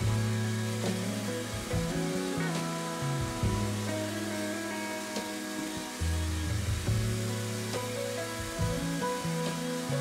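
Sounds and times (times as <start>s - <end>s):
background music with sustained bass: 0.0s - 10.0s.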